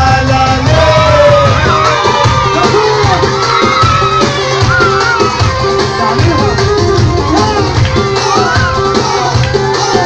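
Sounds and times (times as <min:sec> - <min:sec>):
loud music with pulsing beat: 0:00.0 - 0:10.0.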